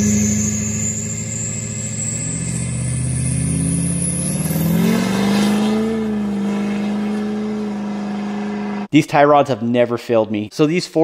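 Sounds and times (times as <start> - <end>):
diesel truck engine accelerating: 0.0 - 8.9
high whine: 0.0 - 8.9.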